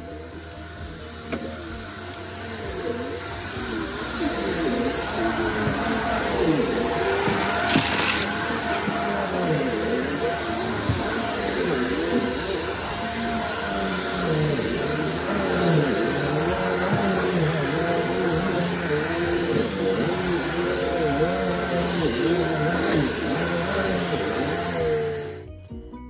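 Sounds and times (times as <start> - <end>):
vacuum cleaner running: 0.0 - 25.6.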